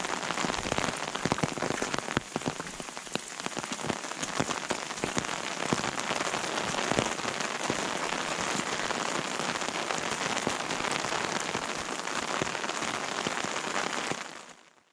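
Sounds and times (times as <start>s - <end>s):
rain falling on forest: 0.0s - 14.9s.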